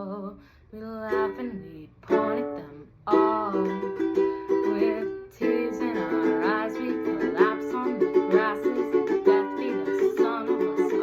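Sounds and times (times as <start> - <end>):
ukulele strumming chords: 1.1 - 11.0.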